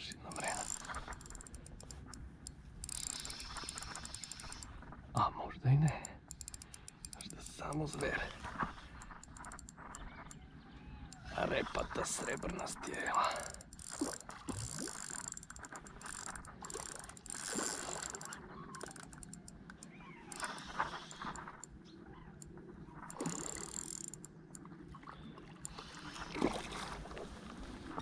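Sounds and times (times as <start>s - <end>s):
fishing reel whirring and clicking: 0.0s - 4.9s, 5.8s - 24.9s, 25.5s - 26.3s.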